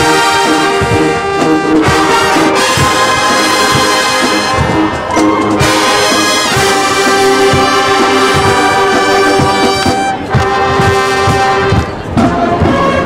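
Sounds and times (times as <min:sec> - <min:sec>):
loud sustained brass chord: 0:00.0 - 0:13.0
marching band playing: 0:00.0 - 0:13.0.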